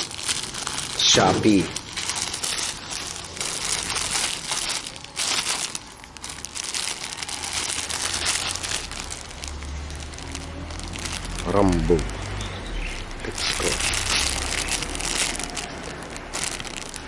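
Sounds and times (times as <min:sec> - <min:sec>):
packaging rustling and crackling: 0:00.0 - 0:17.0.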